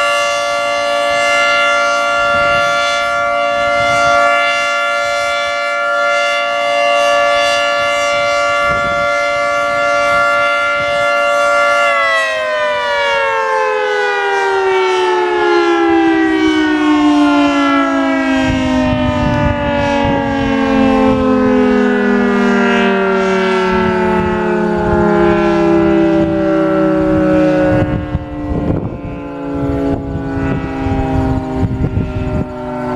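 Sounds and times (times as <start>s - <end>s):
warning siren winding down: 0.0s - 32.9s.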